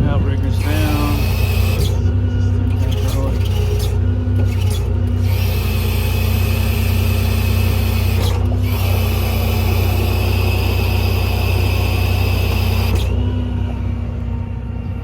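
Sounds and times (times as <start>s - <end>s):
diesel engine running: 0.0s - 15.0s
hydraulic pump whining: 0.0s - 15.0s.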